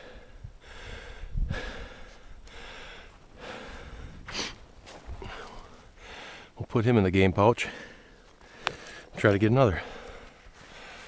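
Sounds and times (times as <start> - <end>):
man breathing heavily: 0.0 - 6.6, 7.6 - 11.0.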